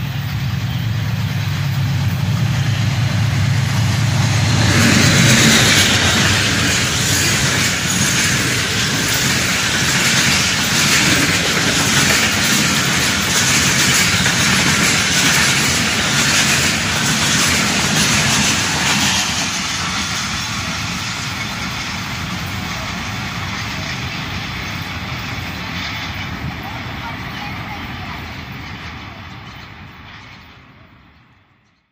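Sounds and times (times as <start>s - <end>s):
wheels clattering over rail joints: 0.0s - 30.5s
train wheels rushing on rails: 0.0s - 31.8s.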